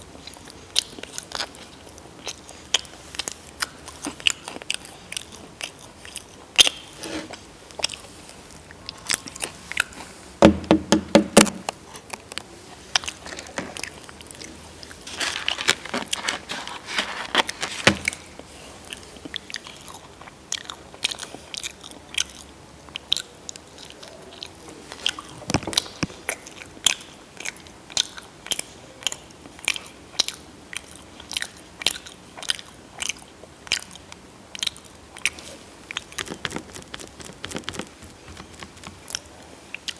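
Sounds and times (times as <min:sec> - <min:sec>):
chewing and crunching food: 0:00.0 - 0:10.2, 0:11.8 - 0:39.9.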